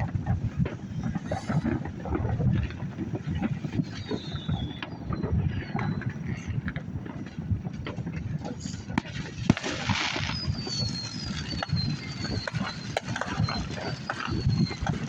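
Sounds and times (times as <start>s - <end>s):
distant fireworks popping and banging: 0.0s - 15.0s
wind rumbling on microphone: 0.0s - 15.0s.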